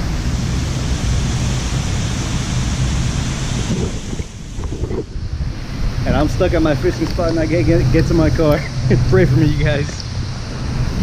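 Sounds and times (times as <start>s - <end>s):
heavy rain hissing: 0.0s - 11.0s
wind buffeting microphone: 0.0s - 11.0s.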